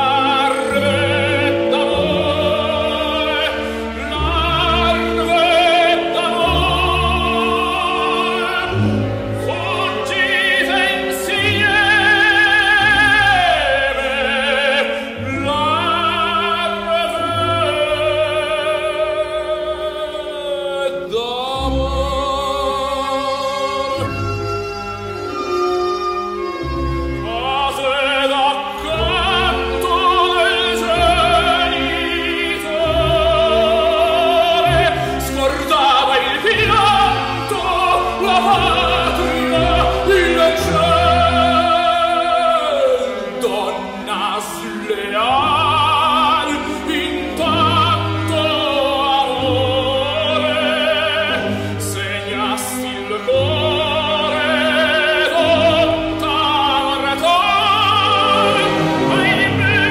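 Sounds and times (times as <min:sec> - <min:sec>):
operatic tenor singing: 0:00.0 - 0:59.9
orchestra playing: 0:00.0 - 0:59.9.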